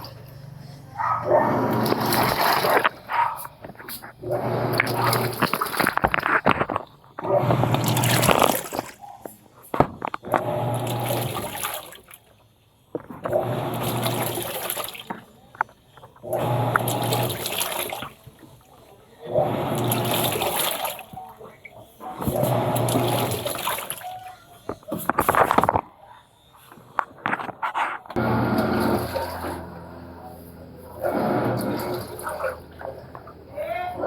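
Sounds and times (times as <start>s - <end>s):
washing machine motor humming: 0.0s - 6.2s, 7.1s - 9.0s, 9.8s - 12.2s, 13.0s - 25.8s, 28.1s - 34.0s
water sloshing: 0.0s - 34.0s.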